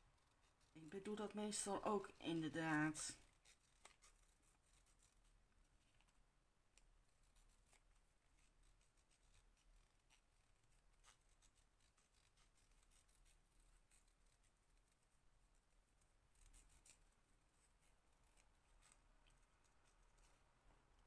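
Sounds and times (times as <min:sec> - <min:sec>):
small scissors snipping paper: 0:00.2 - 0:20.5.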